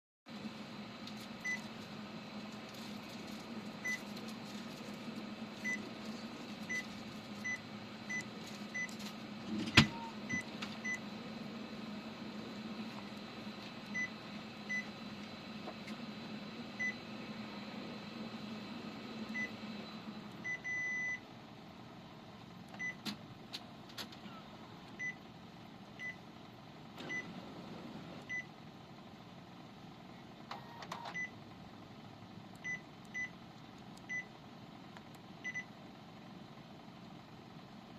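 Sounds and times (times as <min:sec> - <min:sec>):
electrical appliance humming: 0:00.3 - 0:37.9.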